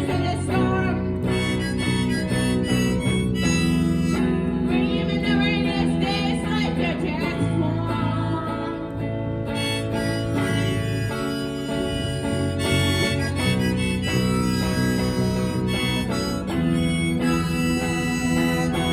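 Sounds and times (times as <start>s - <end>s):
acoustic guitar: 0.0s - 18.9s
harmonica bending notes: 0.0s - 18.9s.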